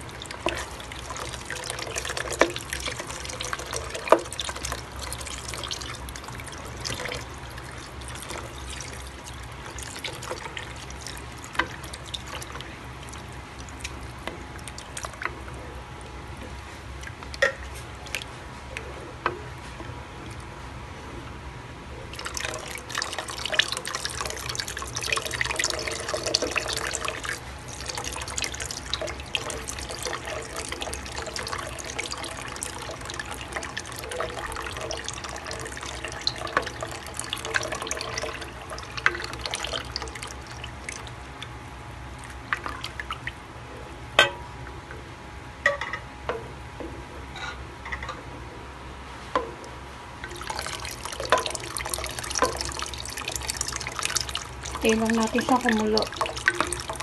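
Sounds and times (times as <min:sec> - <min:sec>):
sauce bubbling and popping: 0:00.0 - 0:18.4, 0:22.1 - 0:43.6, 0:49.4 - 0:57.0
ladle stirring: 0:00.0 - 0:20.5, 0:22.1 - 0:41.5, 0:42.1 - 0:43.4, 0:49.2 - 0:57.0.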